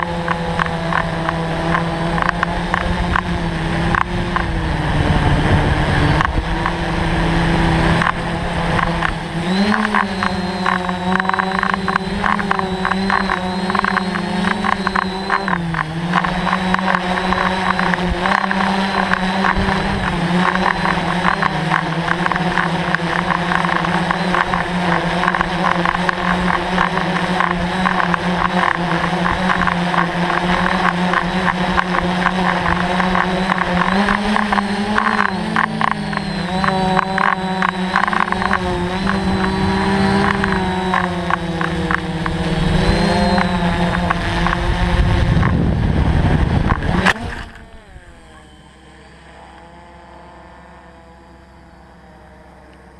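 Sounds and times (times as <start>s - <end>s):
camera hitting the ground: 0.0s - 50.3s
drone propellers buzzing: 0.0s - 52.9s.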